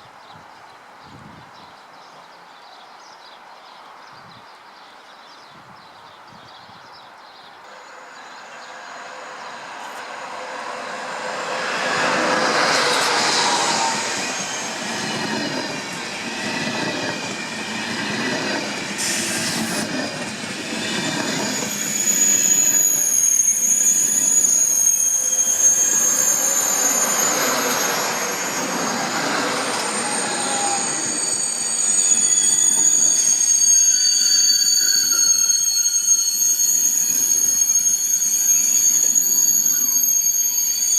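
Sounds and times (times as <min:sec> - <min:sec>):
train rumbling past: 0:07.6 - 0:40.9
wheel squeal: 0:07.7 - 0:40.9.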